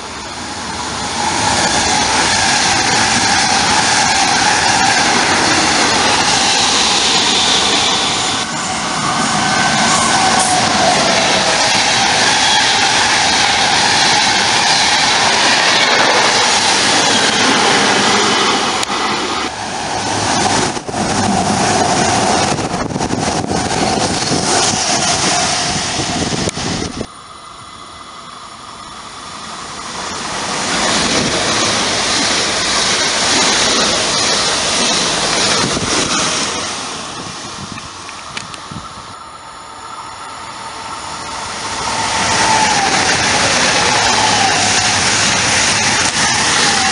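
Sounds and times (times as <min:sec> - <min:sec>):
electric train passing loudly: 0:00.0 - 0:46.9
train coaches rushing past: 0:00.0 - 0:46.9.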